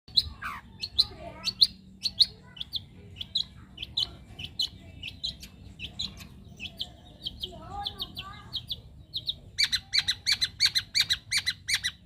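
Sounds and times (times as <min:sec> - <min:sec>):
bird calling with sharp high notes: 0:00.1 - 0:12.0.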